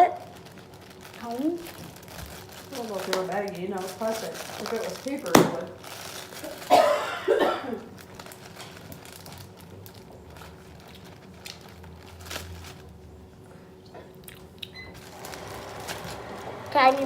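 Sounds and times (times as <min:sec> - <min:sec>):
plastic bag crinkling: 0:00.0 - 0:13.4, 0:14.2 - 0:17.0.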